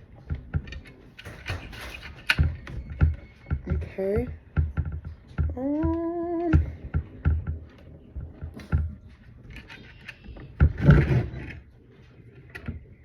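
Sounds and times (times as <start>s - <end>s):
scraping rattle: 0.0s - 13.0s.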